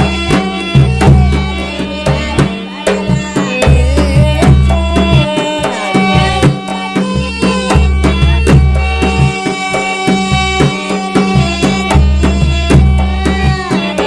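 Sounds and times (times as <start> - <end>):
hand drum beat: 0.0 - 14.0
wavering melody: 0.0 - 14.0.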